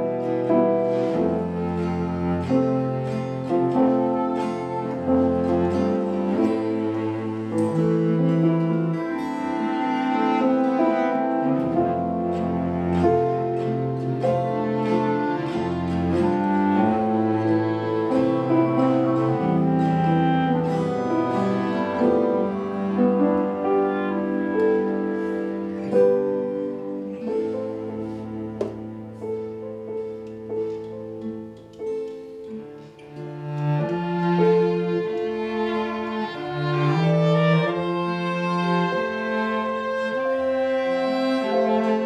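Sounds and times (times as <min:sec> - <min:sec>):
acoustic guitar: 0:00.0 - 0:42.0
bowed violin: 0:00.0 - 0:42.0
cello holding long notes: 0:00.0 - 0:42.0.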